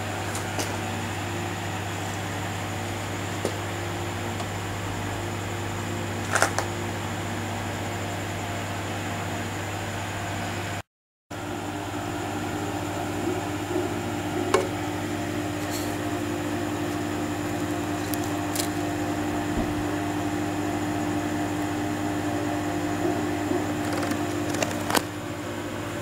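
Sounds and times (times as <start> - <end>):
low mains hum: 0.0 - 10.8, 11.4 - 26.0.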